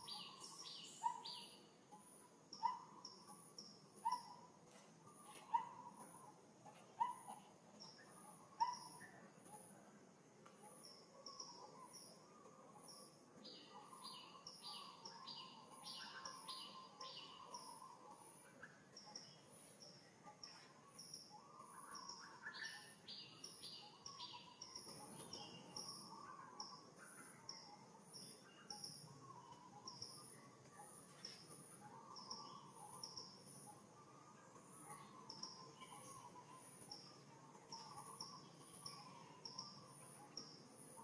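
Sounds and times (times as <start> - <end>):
rapid pulsed bird calls: 0.0 - 9.8, 10.6 - 41.0
faint birds chirping: 0.0 - 41.0.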